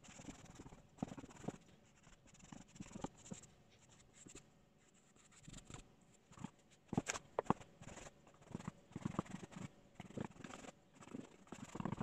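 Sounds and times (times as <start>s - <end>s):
paintbrush scratching on plaster: 0.0s - 12.0s.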